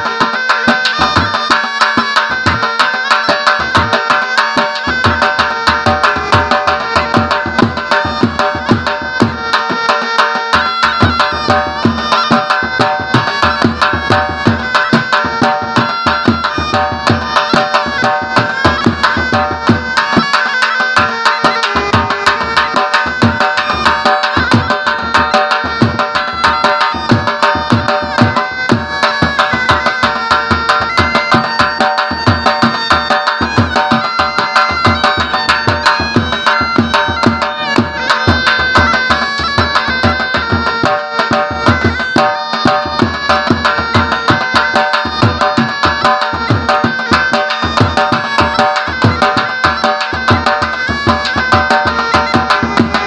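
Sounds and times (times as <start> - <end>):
double-reed wind instrument melody: 0.0 - 53.0
fast steady drumming: 0.0 - 53.0.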